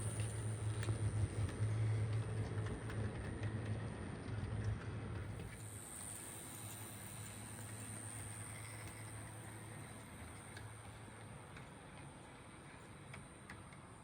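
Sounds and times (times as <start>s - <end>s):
model locomotive motor hum: 0.0s - 14.0s
wheels clicking on rails: 0.0s - 14.0s.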